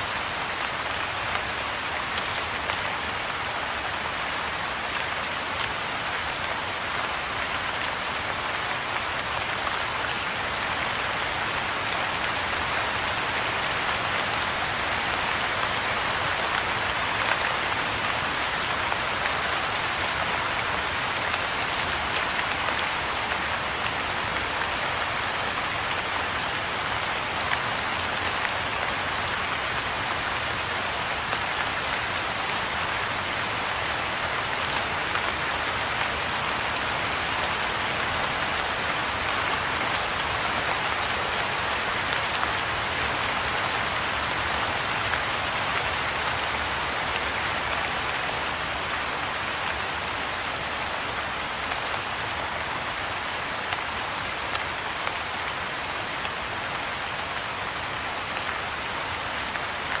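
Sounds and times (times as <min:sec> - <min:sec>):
soft rain on a pond: 0:00.0 - 1:00.0.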